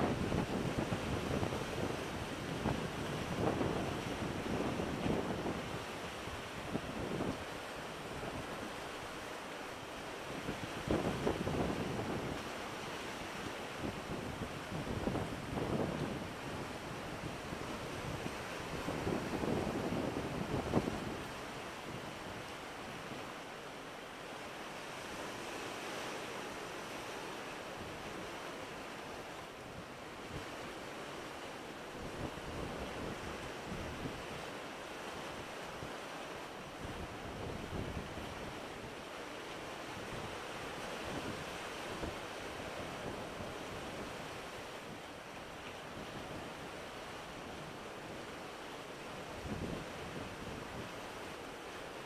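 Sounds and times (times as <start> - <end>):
sea waves washing over rocks: 0.0 - 52.0.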